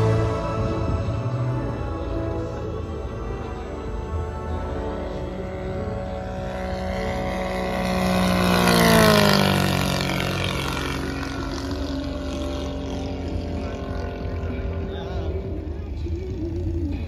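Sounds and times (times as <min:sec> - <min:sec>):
model plane engine drone: 0:00.0 - 0:17.0.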